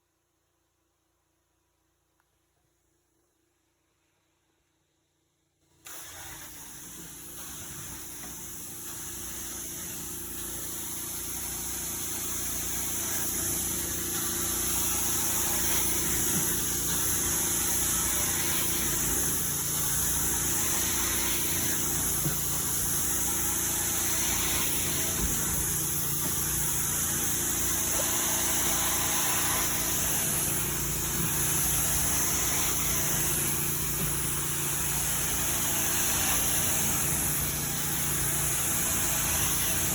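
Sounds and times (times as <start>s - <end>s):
vacuum cleaner running: 5.9s - 39.9s.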